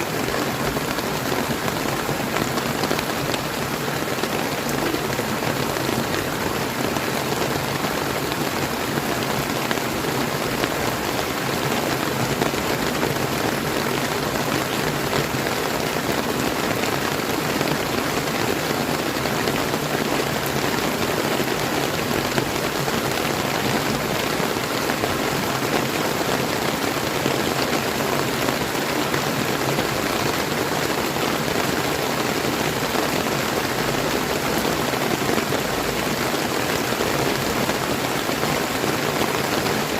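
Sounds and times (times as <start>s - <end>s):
river water flowing: 0.0s - 39.9s
steady rain: 0.0s - 39.9s.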